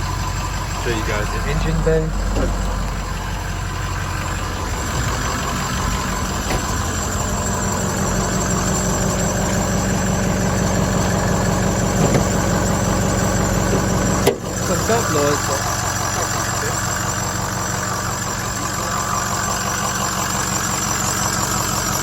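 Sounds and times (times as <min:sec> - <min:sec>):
diesel engine idling: 0:00.0 - 0:22.0
engine belt noise: 0:00.0 - 0:22.0.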